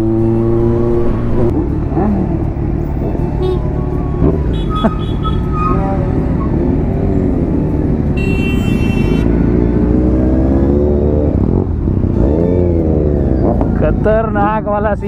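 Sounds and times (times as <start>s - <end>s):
motorcycle engine accelerating: 0.0s - 8.2s, 8.9s - 14.0s.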